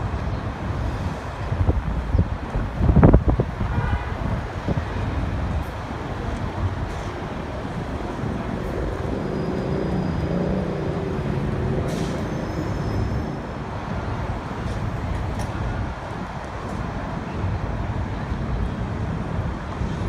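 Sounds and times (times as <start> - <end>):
subway train rumble: 0.0 - 20.0.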